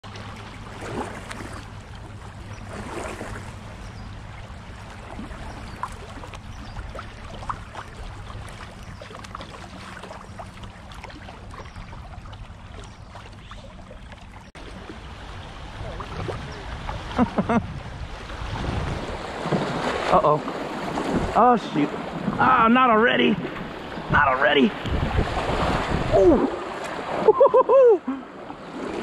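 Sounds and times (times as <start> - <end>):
river water splashing and gurgling: 0.0 - 29.0.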